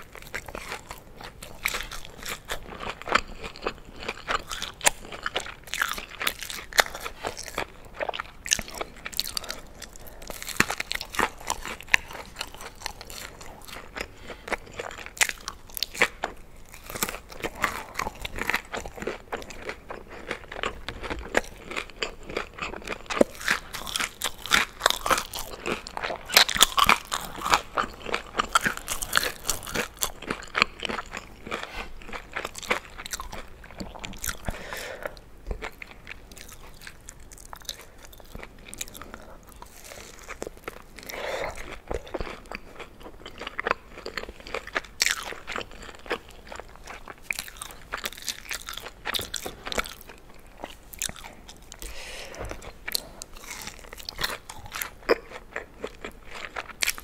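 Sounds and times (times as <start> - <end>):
crunchy chewing of fried chicken: 0.0 - 57.0.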